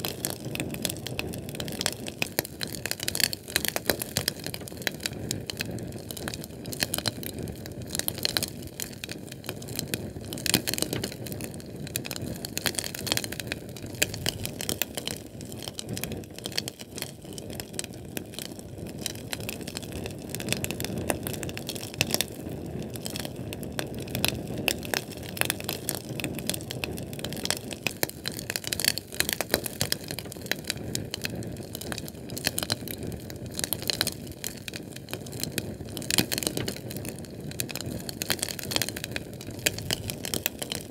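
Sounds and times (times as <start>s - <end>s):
fire crackling and snapping: 0.0s - 40.9s
low rumble of flame: 0.0s - 40.9s.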